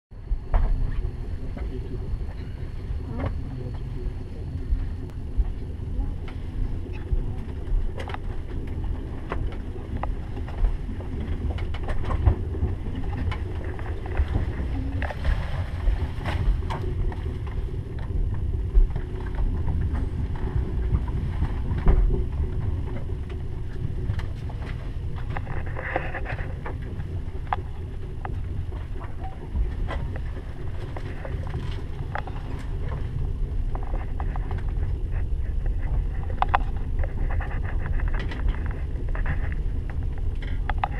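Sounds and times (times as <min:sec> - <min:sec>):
train low rumble: 0:00.2 - 0:40.9.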